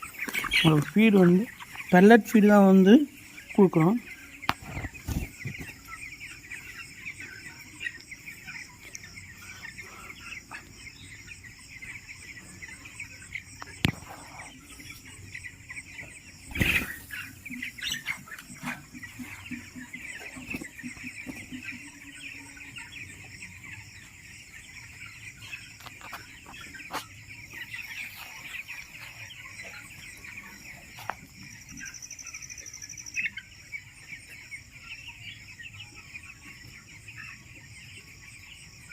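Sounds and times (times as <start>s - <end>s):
chickens cheeping: 0.0s - 38.9s.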